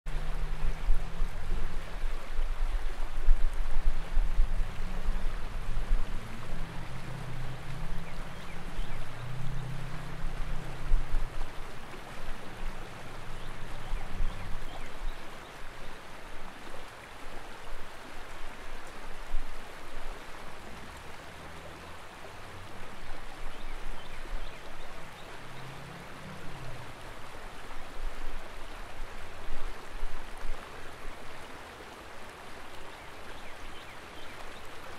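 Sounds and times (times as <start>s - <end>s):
water rushing over rocks: 0.1s - 34.9s.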